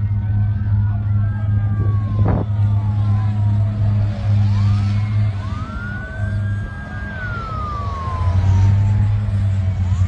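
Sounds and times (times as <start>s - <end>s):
sirens wailing: 0.0s - 10.0s.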